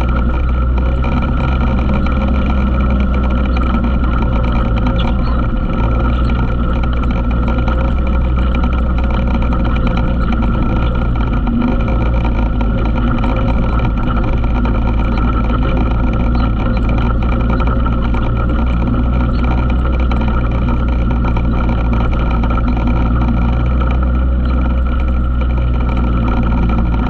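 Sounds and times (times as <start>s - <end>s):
quad bike engine running: 0.0s - 27.0s.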